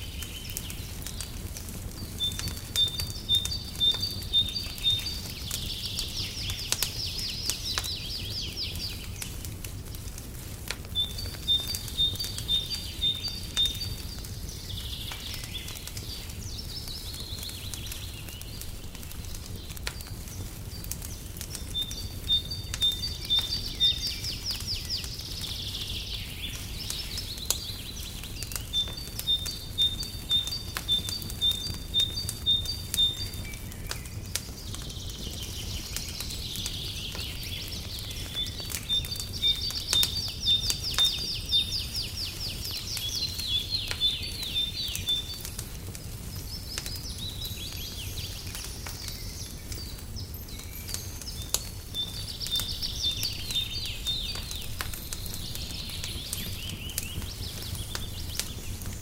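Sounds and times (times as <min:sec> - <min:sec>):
songbirds chirping and trilling: 0:00.0 - 0:59.0
wood fire crackling and popping: 0:00.0 - 0:59.0.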